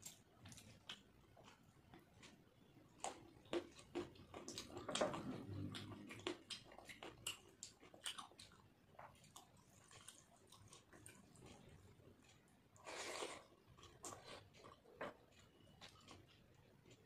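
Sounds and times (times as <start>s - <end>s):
close chewing: 0.0s - 17.0s.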